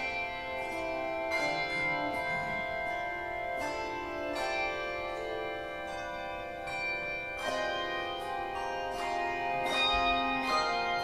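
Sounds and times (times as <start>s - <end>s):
handbell choir ringing a hymn: 0.0s - 11.0s.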